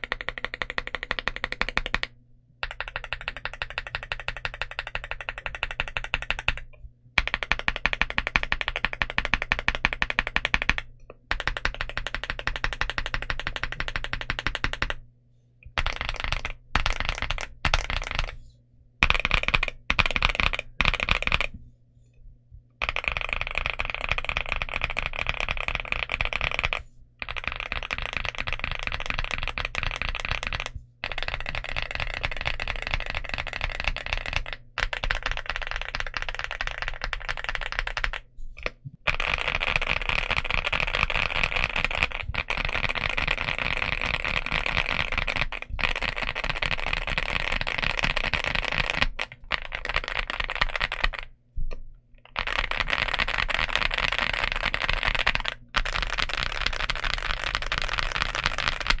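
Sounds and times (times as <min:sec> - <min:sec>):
fast typing on mechanical keyboard: 0:00.0 - 0:15.0, 0:15.8 - 0:18.4, 0:19.0 - 0:21.5, 0:22.8 - 0:51.4, 0:52.3 - 0:59.0.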